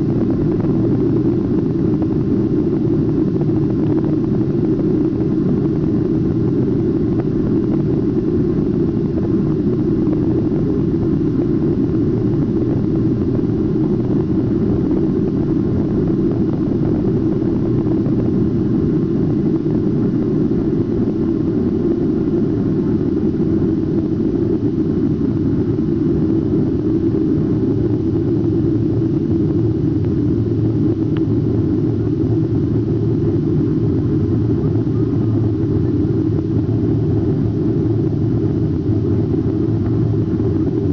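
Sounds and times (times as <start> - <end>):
jet engines at takeoff power: 0.0 - 40.9.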